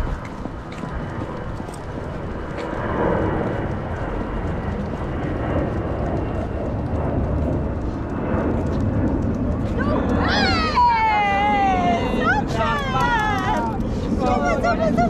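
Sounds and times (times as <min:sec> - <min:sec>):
jet airliner rumble: 0:00.0 - 0:15.0.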